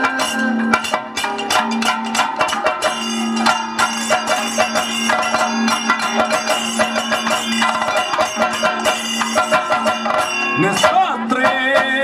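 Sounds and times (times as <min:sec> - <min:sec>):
held drone note: 0:00.0 - 0:11.3
metallic cymbal and gong strikes: 0:00.1 - 0:10.6.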